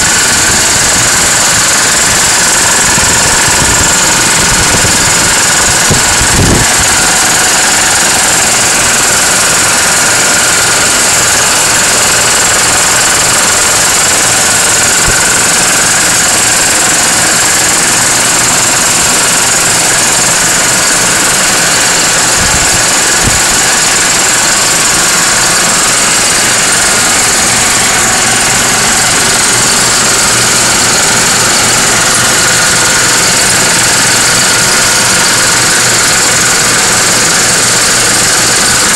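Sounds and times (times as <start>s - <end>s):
air compressor knocking: 0.0s - 38.9s.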